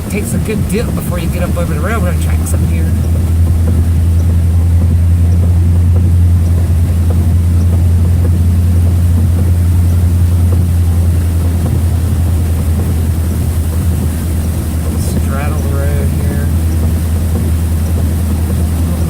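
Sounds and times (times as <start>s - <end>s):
tyres hissing on flooded road: 0.0s - 19.0s
vehicle engine drone from inside: 0.0s - 19.0s.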